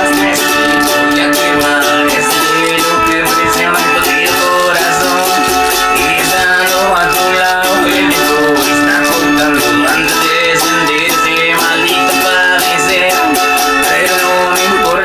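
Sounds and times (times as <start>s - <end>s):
fast rattling percussion beat: 0.0s - 15.0s
plucked strings: 0.0s - 15.0s.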